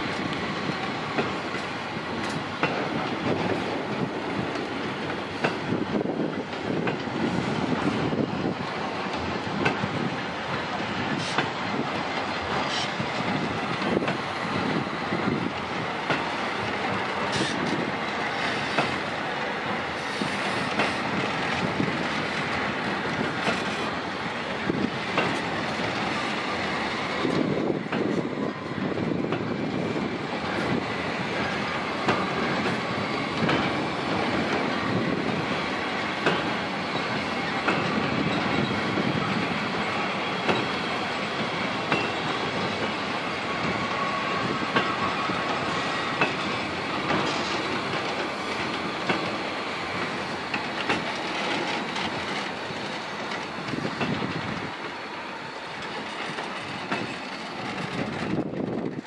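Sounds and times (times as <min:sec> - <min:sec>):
train wheels rumbling: 0:00.0 - 0:59.0
wheels clacking over rail joints: 0:00.0 - 0:59.0.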